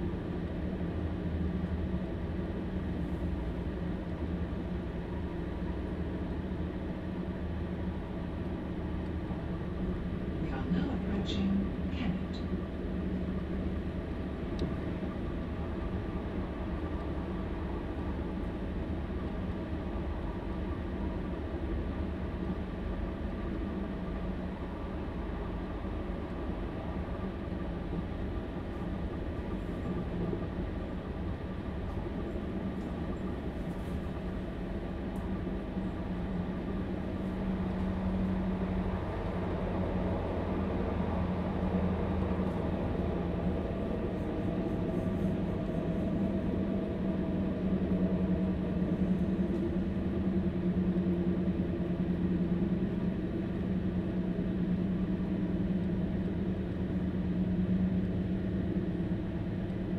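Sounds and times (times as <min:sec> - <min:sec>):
diesel engine humming: 0:00.0 - 0:59.9
train wheels rumbling on track: 0:00.0 - 0:59.9.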